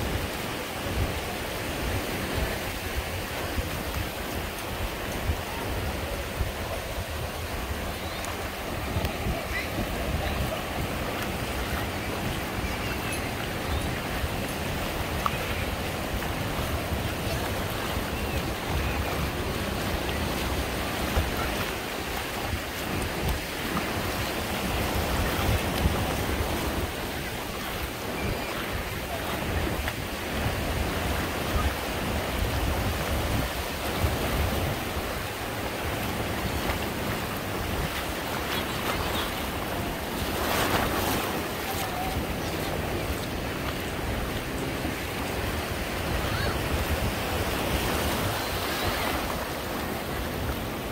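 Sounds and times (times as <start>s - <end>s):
surf washing up shore: 0.0s - 50.9s
wind buffeting microphone: 0.0s - 50.9s.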